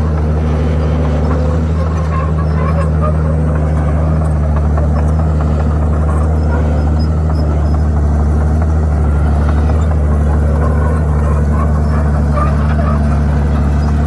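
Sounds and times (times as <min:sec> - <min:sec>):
bulldozer diesel engine humming: 0:00.0 - 0:14.0.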